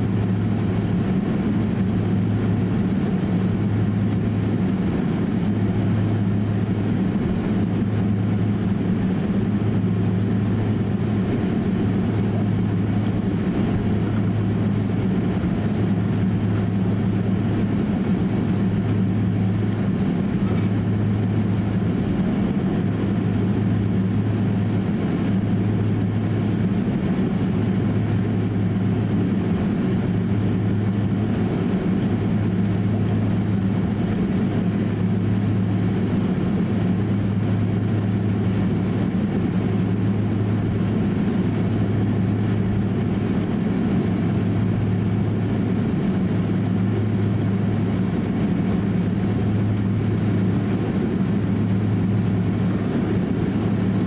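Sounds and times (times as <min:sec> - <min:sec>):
jet engines humming in cabin: 0:00.0 - 0:54.0.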